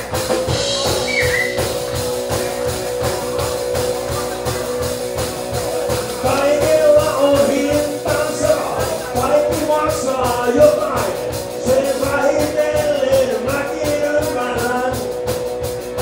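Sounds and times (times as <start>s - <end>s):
drums keeping a steady beat: 0.0s - 16.0s
electric guitar: 0.0s - 16.0s
upright double bass: 0.0s - 16.0s
person singing: 0.7s - 15.3s.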